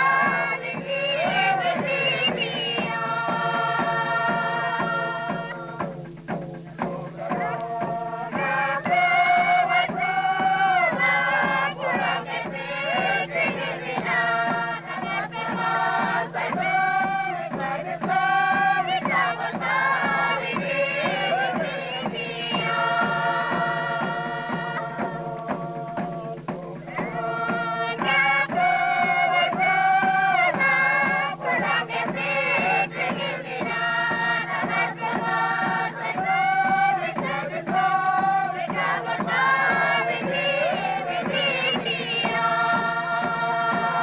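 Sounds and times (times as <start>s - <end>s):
group chanting long notes: 0.0s - 6.1s, 6.8s - 44.0s
drum beating steadily: 0.0s - 44.0s.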